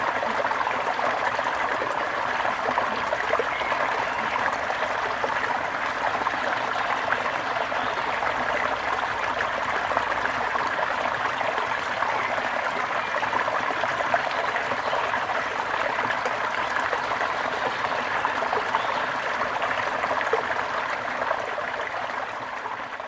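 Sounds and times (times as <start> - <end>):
brook water babbling over stones: 0.0 - 23.0.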